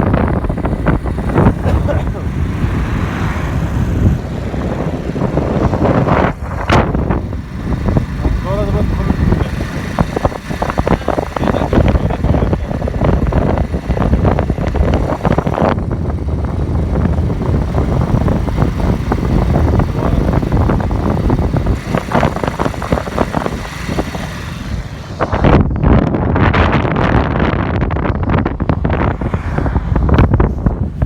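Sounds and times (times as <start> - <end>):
vehicle rumbling: 0.0 - 31.0
wind buffeting microphone: 0.0 - 31.0.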